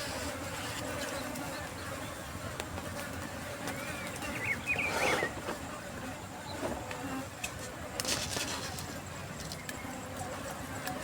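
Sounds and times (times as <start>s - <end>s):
fly buzzing: 0.0s - 11.0s.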